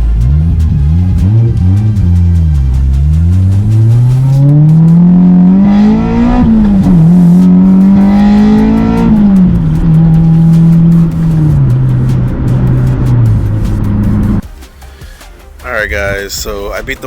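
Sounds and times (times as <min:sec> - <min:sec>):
car engine revving under load: 0:00.0 - 0:14.4.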